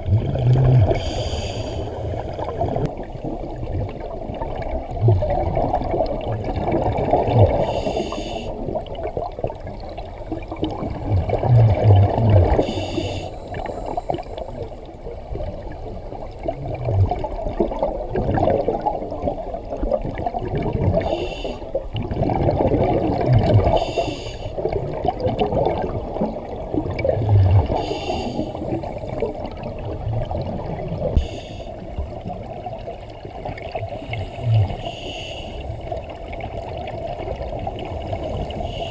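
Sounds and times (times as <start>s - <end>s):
exhaled bubbles: 0.0s - 38.9s
muffled underwater rumble: 0.0s - 38.9s.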